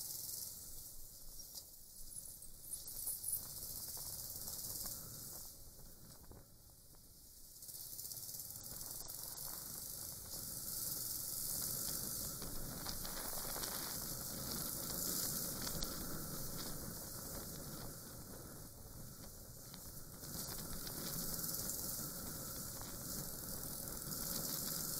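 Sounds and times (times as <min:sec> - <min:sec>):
wind hiss: 0:00.0 - 0:24.9.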